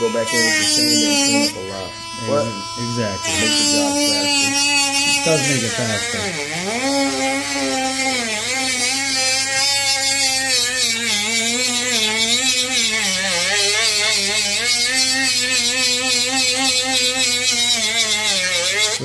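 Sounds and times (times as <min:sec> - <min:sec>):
rotary tool grinding plastic: 0:00.0 - 0:19.0.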